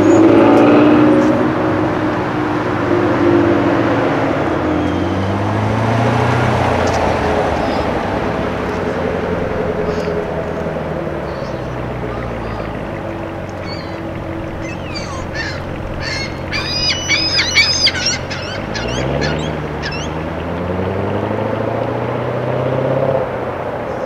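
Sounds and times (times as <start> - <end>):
car engine burbling: 0.0 - 24.0
gulls calling: 0.0 - 24.0.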